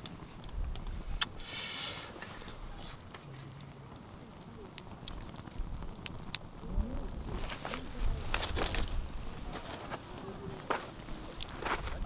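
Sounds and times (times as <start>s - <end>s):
campfire crackling: 0.0s - 12.0s
fire popping: 0.0s - 12.0s.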